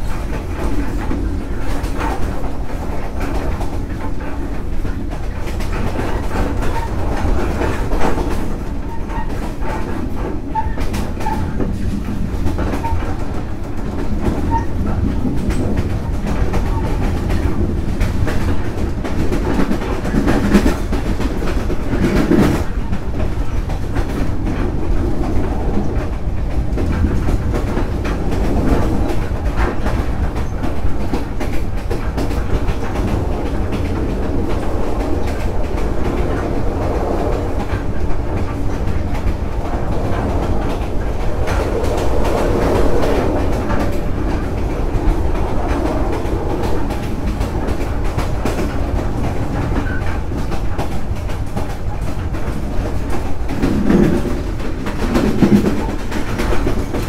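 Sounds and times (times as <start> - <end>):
clickety-clack of train wheels: 0.0 - 57.0
train rumble: 0.0 - 57.0.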